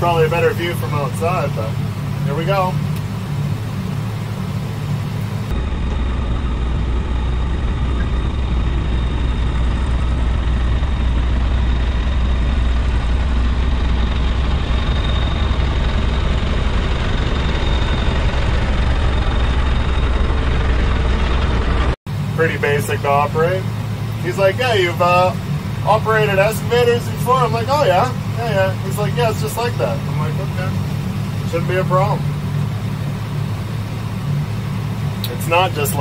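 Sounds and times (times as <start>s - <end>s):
backhoe diesel engine rumbling: 0.0s - 36.0s.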